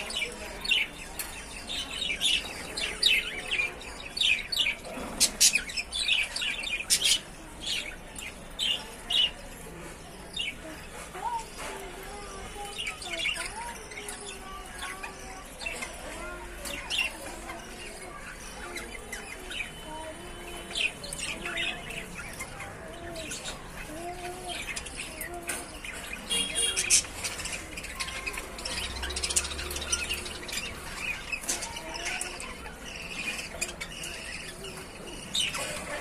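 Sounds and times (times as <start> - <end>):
budgerigars chirping and squawking: 0.0 - 36.0.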